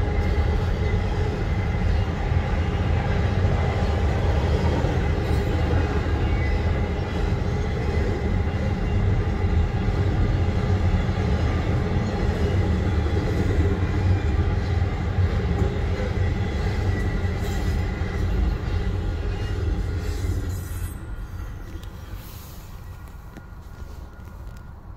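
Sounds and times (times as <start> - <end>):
freight train wheels rumbling: 0.0 - 24.9.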